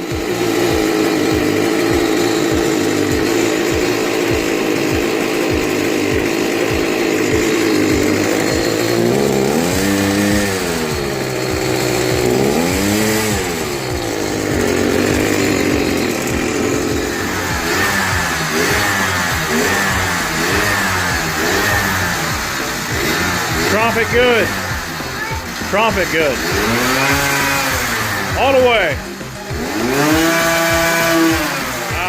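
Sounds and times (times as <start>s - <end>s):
small atv engine revving: 0.0s - 32.0s.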